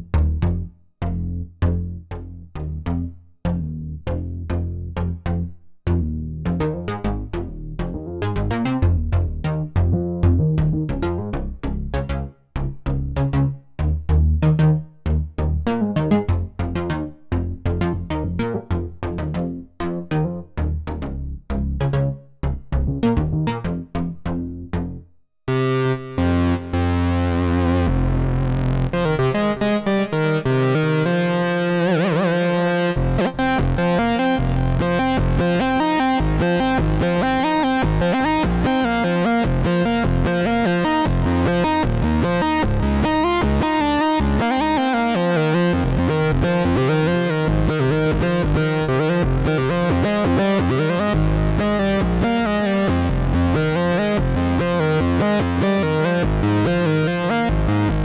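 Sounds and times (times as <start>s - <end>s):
synthesizer bass notes: 0.0s - 58.0s.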